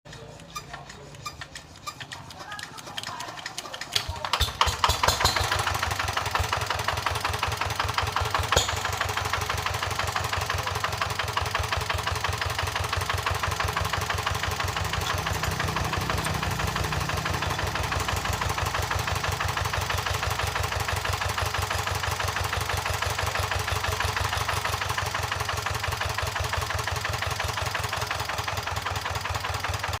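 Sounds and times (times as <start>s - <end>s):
engine idling through exhaust: 0.1s - 30.0s.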